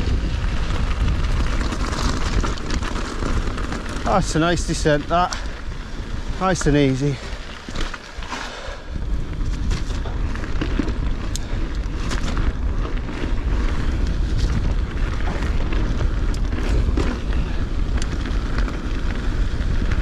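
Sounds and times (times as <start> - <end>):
bike rattling over stones: 0.0 - 20.0
wind buffeting microphone: 0.0 - 20.0.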